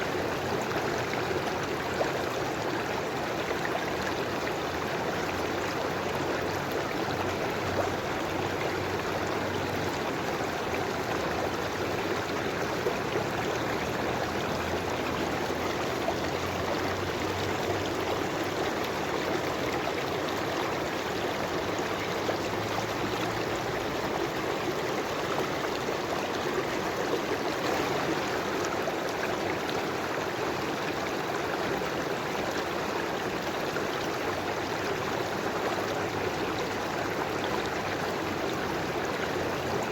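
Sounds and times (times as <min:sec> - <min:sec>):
river water flowing over stones: 0:00.0 - 0:39.9.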